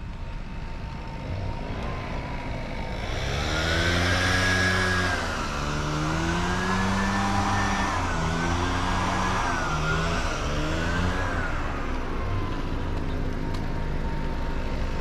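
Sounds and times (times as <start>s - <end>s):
vehicle engine driving by: 0.0s - 15.0s.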